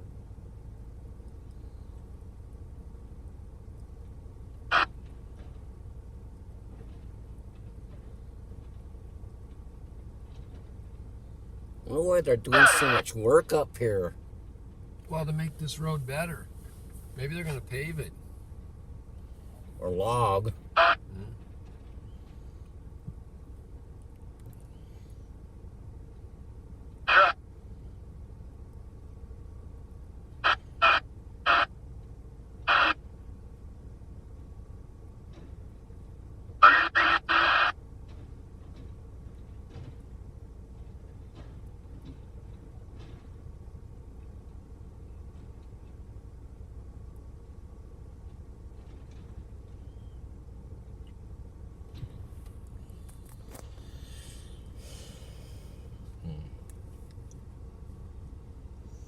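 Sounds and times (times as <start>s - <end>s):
vehicle driving on unpaved road: 0.0s - 59.0s.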